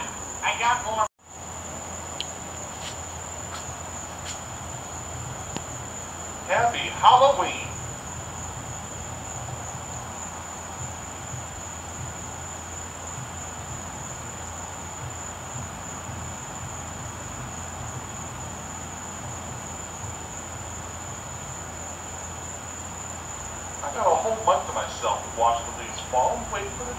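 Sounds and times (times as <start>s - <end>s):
blower fan humming: 0.0s - 26.9s.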